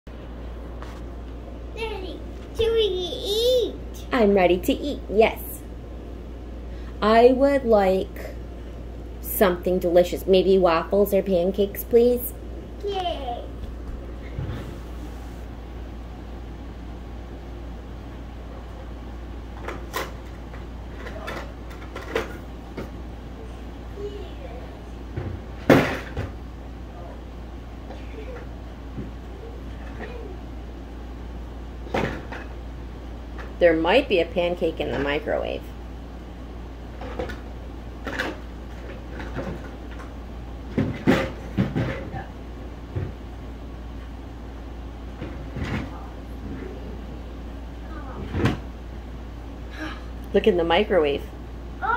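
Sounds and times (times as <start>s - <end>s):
low room hum: 0.1s - 51.9s.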